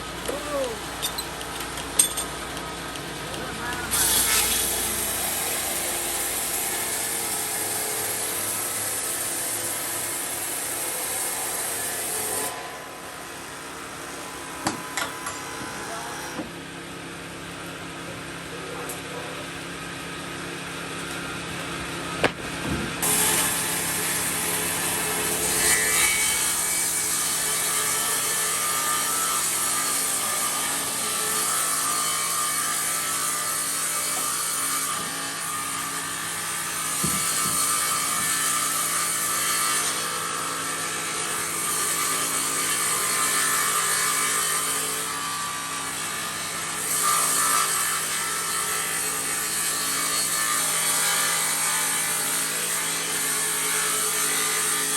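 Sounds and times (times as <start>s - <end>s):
power saw cutting wood: 0.0s - 16.7s, 18.6s - 54.9s.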